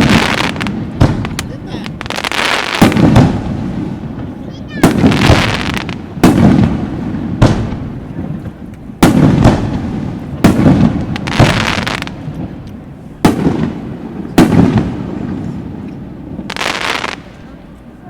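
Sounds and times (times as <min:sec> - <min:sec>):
firework shells bursting: 0:00.0 - 0:17.5.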